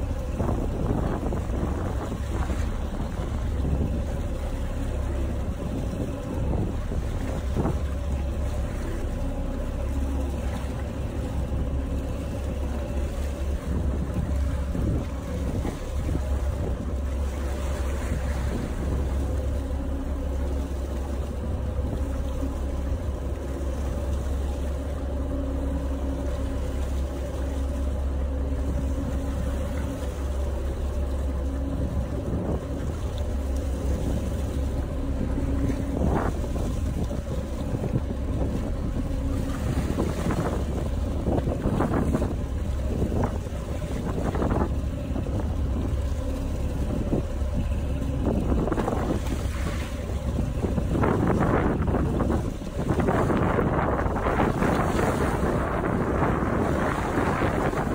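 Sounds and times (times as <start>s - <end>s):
boat engine rumbling: 0.0s - 57.9s
water rushing past hull: 0.0s - 57.9s
wind buffeting microphone: 0.0s - 57.9s.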